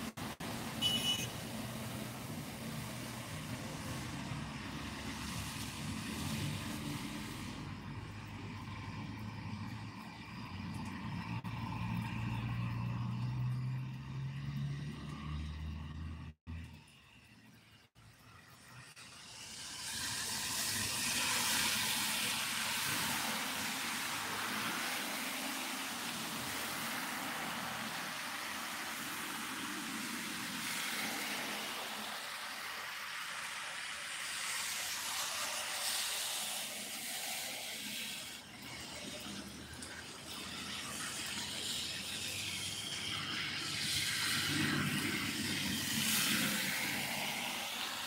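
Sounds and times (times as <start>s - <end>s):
car tyres hissing through water: 0.0s - 16.2s, 18.2s - 48.0s.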